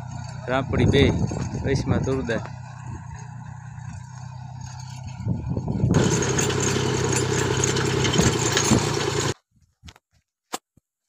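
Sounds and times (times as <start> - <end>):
tractor engine running: 0.0 - 9.4.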